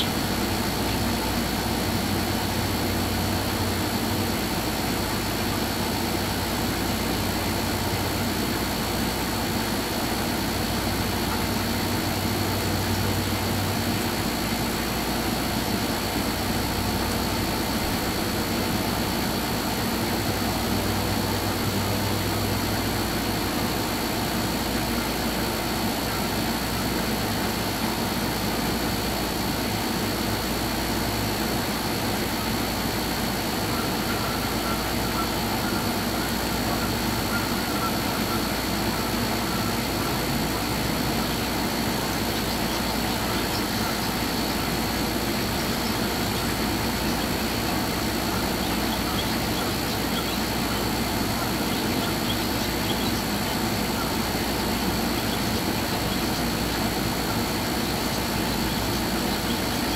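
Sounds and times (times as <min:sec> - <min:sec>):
constant hiss: 0:00.0 - 0:59.9
low mechanical hum: 0:00.0 - 0:59.9.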